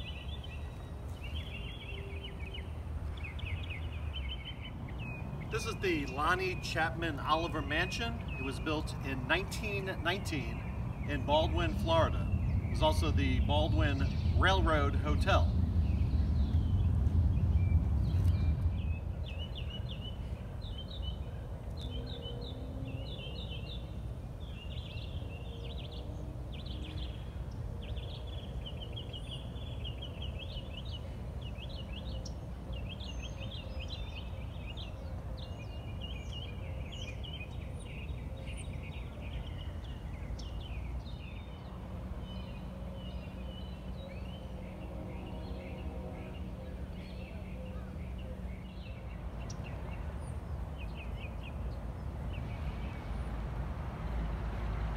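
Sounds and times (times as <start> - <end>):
small birds chirping: 0.0 - 53.4.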